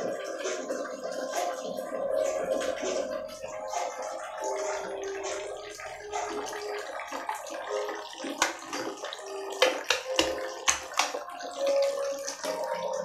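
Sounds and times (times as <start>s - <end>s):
water splashing in a plastic tub: 0.0s - 13.0s.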